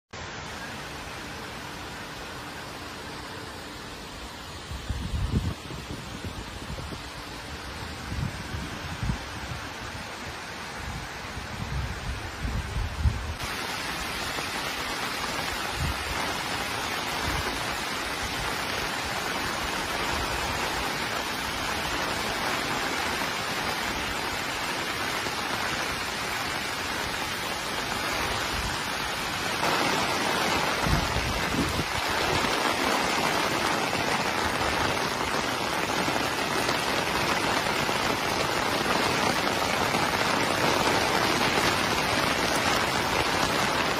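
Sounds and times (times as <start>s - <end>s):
water rushing over spillway: 0.2s - 43.9s.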